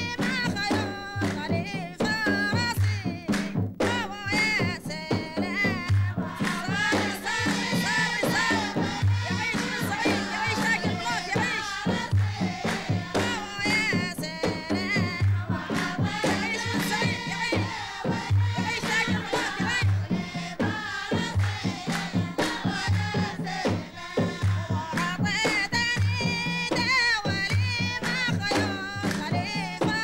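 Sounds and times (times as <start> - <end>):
handclaps: 0.0 - 20.0, 20.6 - 30.0
women singing together: 0.0 - 30.0.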